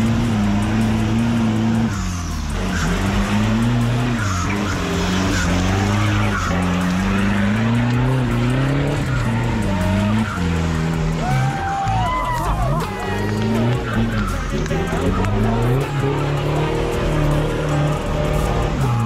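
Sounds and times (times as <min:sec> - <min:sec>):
engine revving hard: 0:00.0 - 0:12.0, 0:12.7 - 0:19.0.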